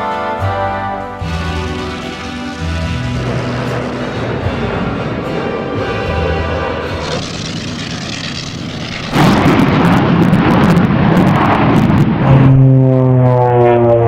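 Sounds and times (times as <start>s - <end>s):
aircraft engine roaring: 0.0s - 14.0s.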